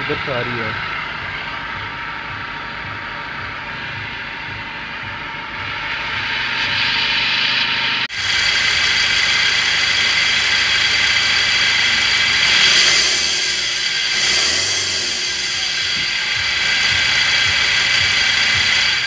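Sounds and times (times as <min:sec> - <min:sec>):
car engine idling: 0:00.0 - 0:19.0
unusual fan belt noise: 0:00.0 - 0:19.0.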